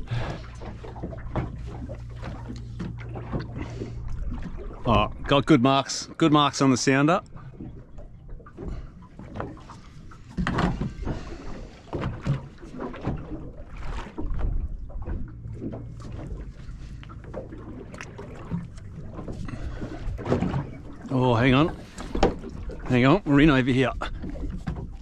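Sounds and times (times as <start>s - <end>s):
water slapping against boat hull: 0.0s - 25.0s.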